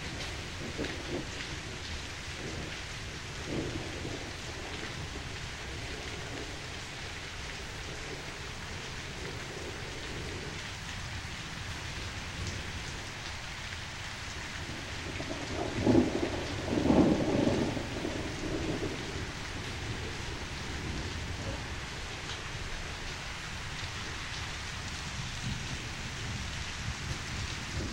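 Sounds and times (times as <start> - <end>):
steady rain: 0.0 - 27.9
thunder rumbling: 0.1 - 10.6, 14.4 - 27.9.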